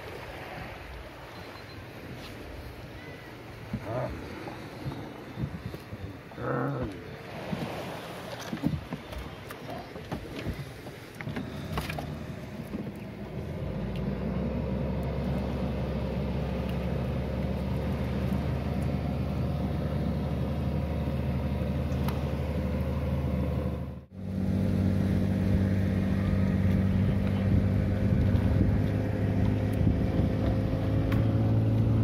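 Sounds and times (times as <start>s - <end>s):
boat engine running: 0.1s - 32.0s.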